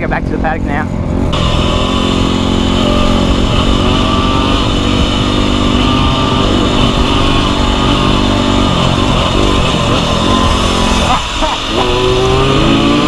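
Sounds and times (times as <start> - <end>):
dirt bike engine revving: 0.0 - 13.0
steady rush of noise: 0.0 - 13.0.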